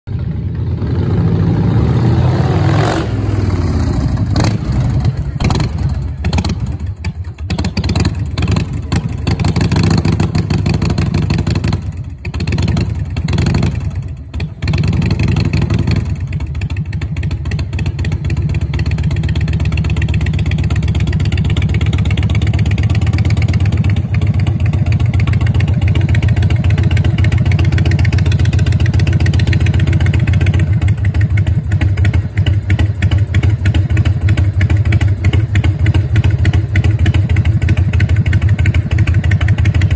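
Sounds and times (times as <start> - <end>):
motorcycle engine revving and idling: 0.1 - 39.9.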